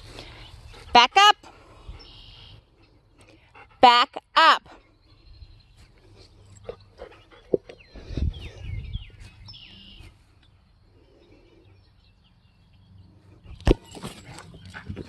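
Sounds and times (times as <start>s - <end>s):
birds chirping: 0.0s - 3.8s, 4.7s - 15.0s.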